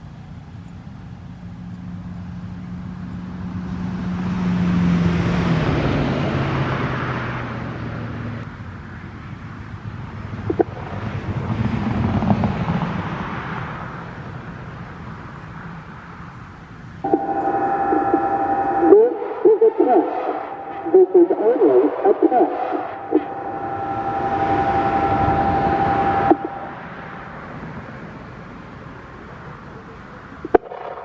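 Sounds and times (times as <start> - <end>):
quieter vehicle passing: 0.0 - 31.0
car passing by: 1.3 - 31.0.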